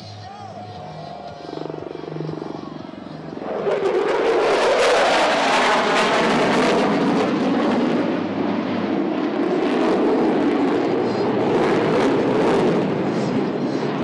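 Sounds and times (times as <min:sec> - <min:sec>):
fighter jet flying past: 0:00.8 - 0:14.0.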